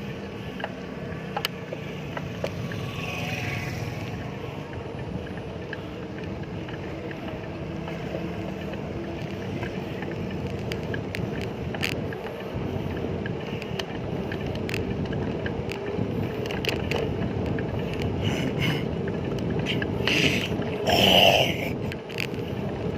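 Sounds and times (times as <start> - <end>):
bicycle clicks and ticks: 0.0 - 22.9
street traffic engines: 0.0 - 22.9.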